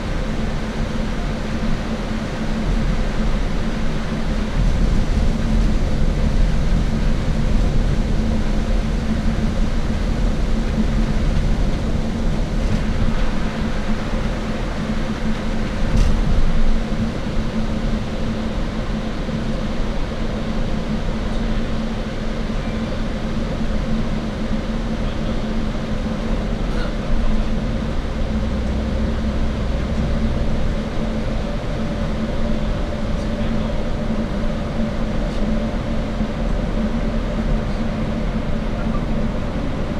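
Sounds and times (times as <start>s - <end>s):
bus engine hum: 0.0s - 39.9s
constant humming tone: 0.0s - 39.9s
road rumble: 0.0s - 39.9s.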